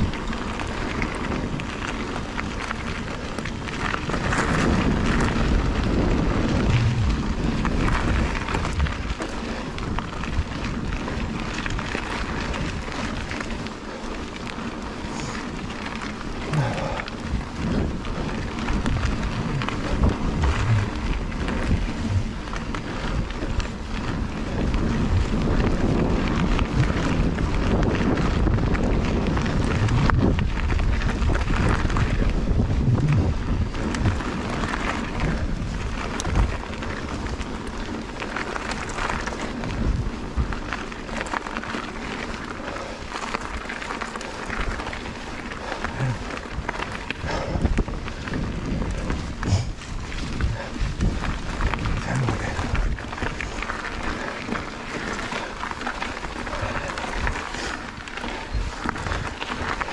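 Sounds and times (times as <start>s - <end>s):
bike chain and frame clattering: 0.0s - 59.9s
bike tyres crunching on dirt: 0.0s - 59.9s
wind buffeting microphone: 0.0s - 59.9s.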